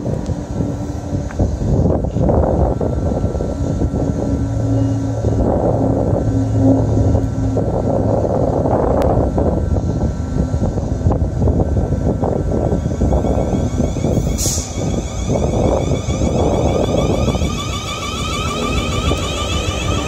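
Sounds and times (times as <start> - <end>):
train equipment low rumble: 0.0 - 20.0
two-tone hum: 2.0 - 20.0.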